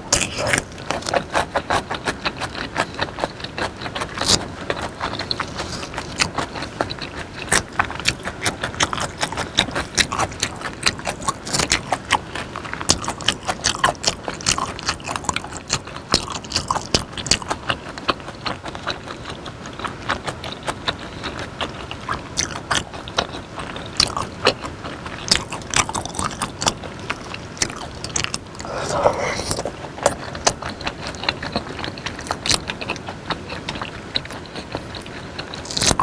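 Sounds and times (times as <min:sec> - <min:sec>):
wet chewing mouth clicks: 0:00.0 - 0:36.0.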